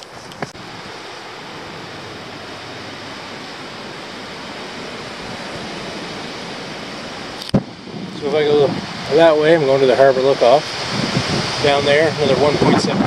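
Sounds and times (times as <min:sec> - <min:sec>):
rushing wind: 0:00.0 - 0:13.0.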